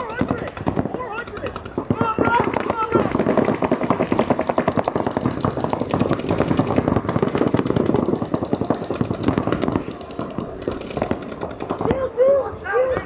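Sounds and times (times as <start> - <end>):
paintball markers firing rapidly: 0.0 - 12.1.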